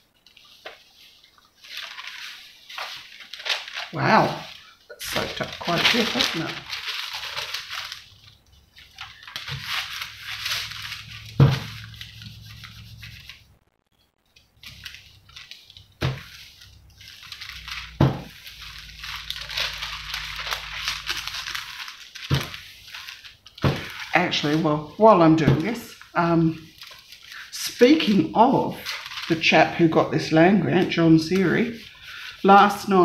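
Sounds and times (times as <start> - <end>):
paper rustling and crinkling: 0.0 - 33.0.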